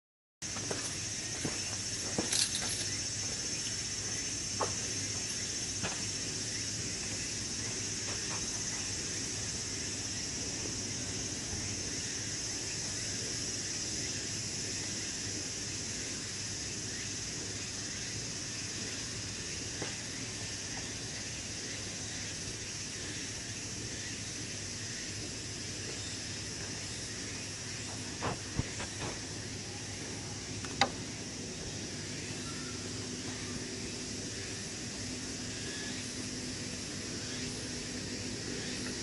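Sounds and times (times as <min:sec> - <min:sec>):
insects chirring: 0:00.4 - 0:39.0.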